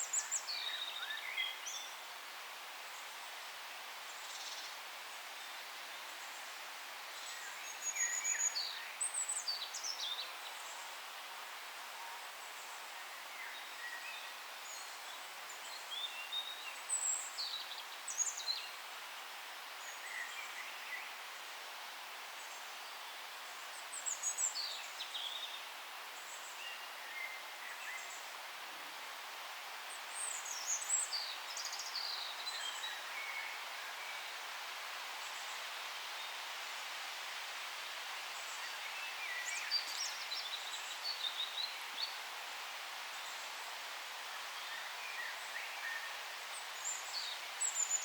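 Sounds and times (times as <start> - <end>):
steady forest hiss: 0.0 - 48.0.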